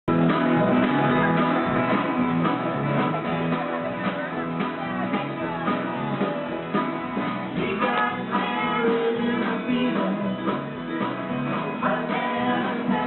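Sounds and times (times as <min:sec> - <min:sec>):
small band playing live: 0:00.1 - 0:13.0
strummed acoustic guitar: 0:00.1 - 0:13.0.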